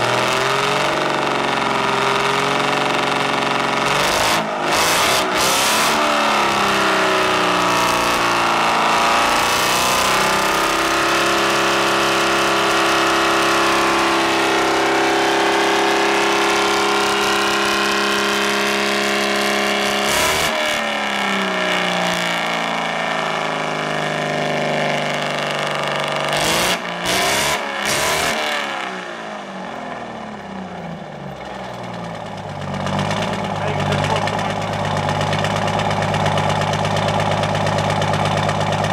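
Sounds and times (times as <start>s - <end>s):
diesel bus engine revving: 0.0s - 38.9s.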